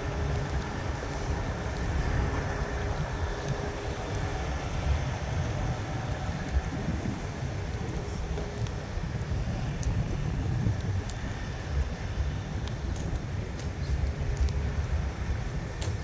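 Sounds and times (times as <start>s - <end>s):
diesel truck engines rumbling: 0.0s - 16.0s.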